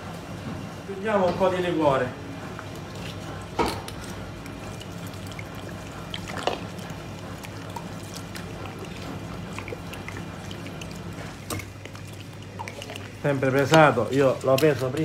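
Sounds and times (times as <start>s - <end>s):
steady low hum: 0.0s - 15.0s
liquid trickling into bowl: 2.4s - 15.0s.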